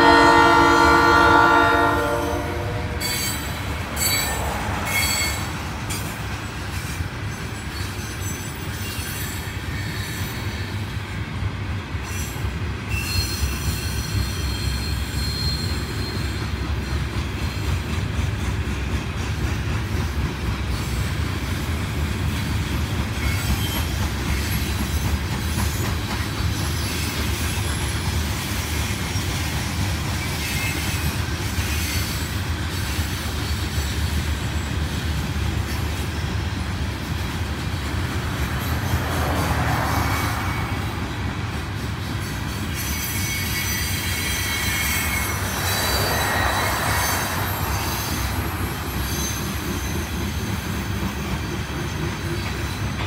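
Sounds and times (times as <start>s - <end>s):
high wheel squeals: 0.0s - 11.0s, 12.0s - 17.7s, 23.0s - 34.9s, 35.6s - 53.0s
train wheels rumbling on rail: 0.0s - 53.0s.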